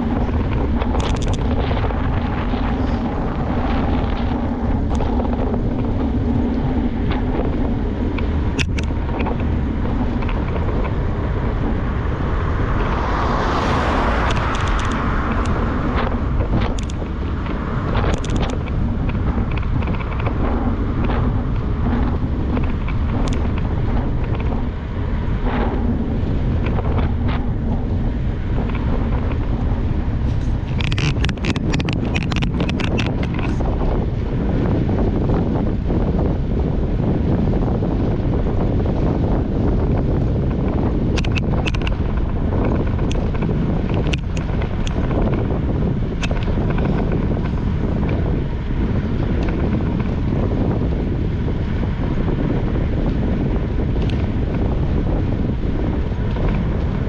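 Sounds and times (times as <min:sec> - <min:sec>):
bike clicks and rattles: 0:00.0 - 0:57.0
tyres rumbling on road: 0:00.0 - 0:57.0
wind buffeting microphone: 0:00.0 - 0:57.0.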